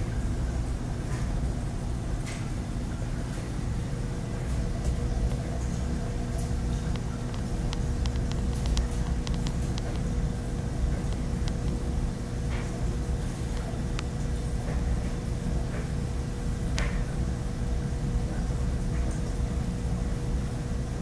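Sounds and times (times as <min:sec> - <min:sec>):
faint electrical hum: 0:00.0 - 0:21.0
pumps and circulating water: 0:00.0 - 0:21.0.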